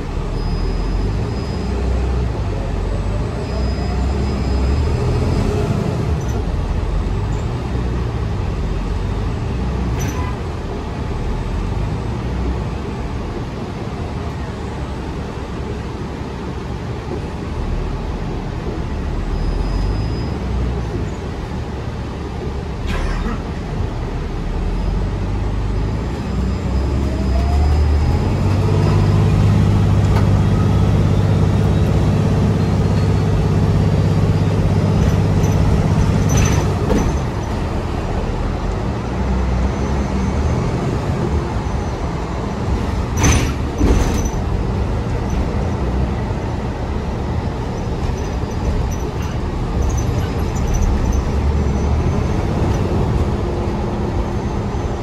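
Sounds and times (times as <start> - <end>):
diesel engine humming: 0.0 - 55.0
tyre and road noise: 0.0 - 55.0.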